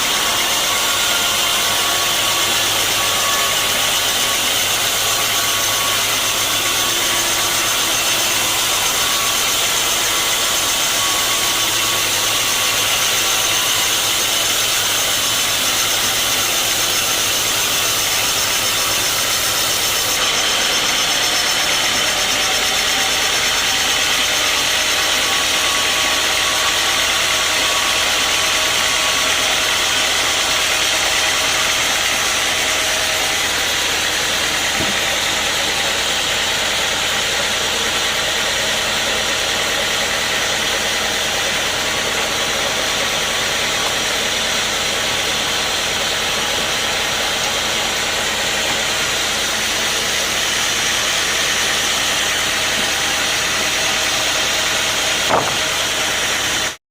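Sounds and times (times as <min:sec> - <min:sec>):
sawmill machinery with loud hiss: 0:00.0 - 0:56.8.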